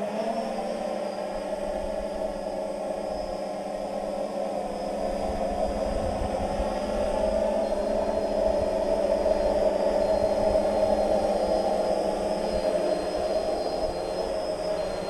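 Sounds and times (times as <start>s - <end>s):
drone motors humming: 0.0s - 15.0s
wind rumble on microphone: 0.0s - 15.0s.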